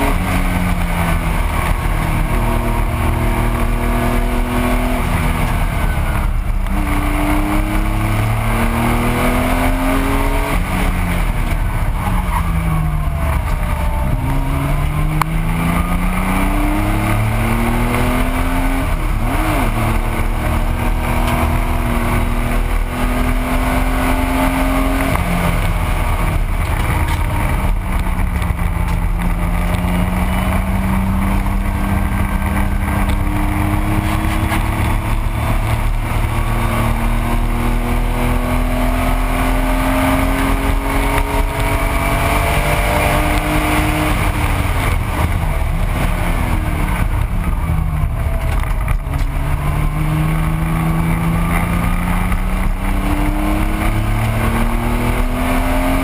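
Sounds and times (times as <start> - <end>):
car engine under racing load: 0.0 - 56.0
wind and road noise: 0.0 - 56.0.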